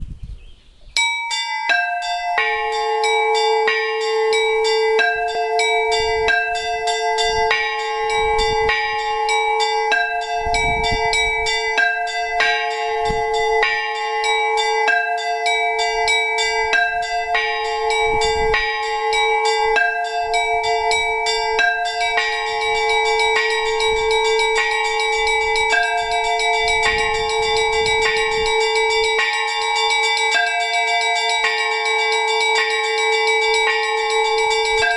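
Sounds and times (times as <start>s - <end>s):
large bell ringing: 1.0s - 34.9s
small church bells struck: 1.0s - 34.9s.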